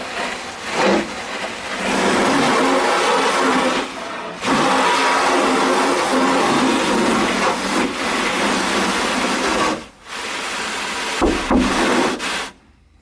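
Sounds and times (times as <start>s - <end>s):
hose water spraying on car: 0.0s - 12.6s.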